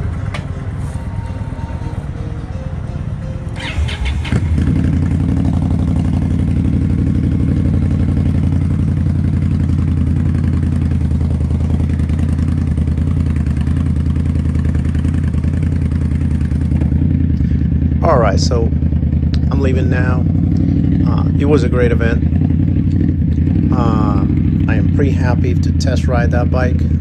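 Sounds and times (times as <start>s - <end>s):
motorcycle engine starting and running: 0.0s - 27.0s.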